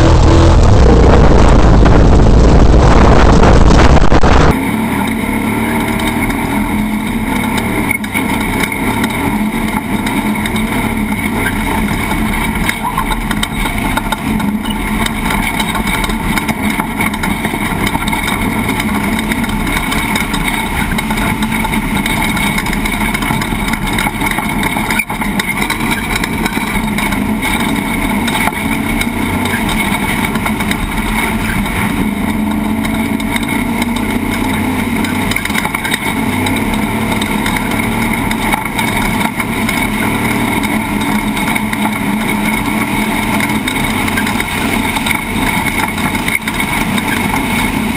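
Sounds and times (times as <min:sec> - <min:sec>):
rough terrain and drivetrain noise: 0:00.0 - 0:47.9
truck engine running hard: 0:00.0 - 0:47.9.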